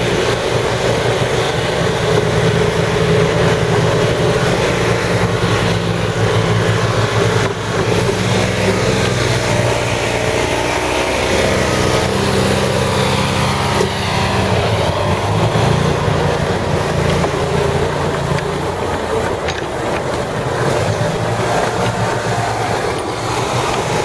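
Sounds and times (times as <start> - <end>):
atv engine running under load: 0.0 - 24.0
constant rushing noise: 0.0 - 24.0.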